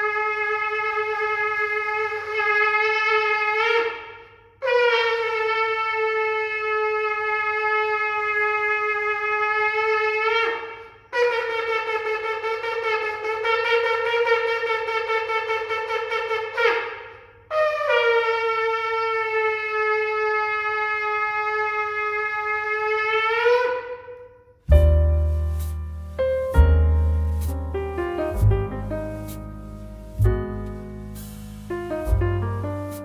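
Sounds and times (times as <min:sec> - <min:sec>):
shofar blasts: 0:00.0 - 0:33.0.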